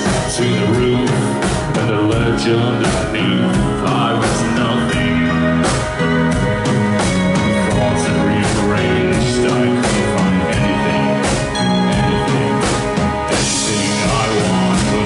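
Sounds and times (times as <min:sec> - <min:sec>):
bass guitar: 0:00.0 - 0:15.0
drum kit beat: 0:00.0 - 0:15.0
electric guitars: 0:00.0 - 0:15.0
keyboard: 0:00.0 - 0:15.0.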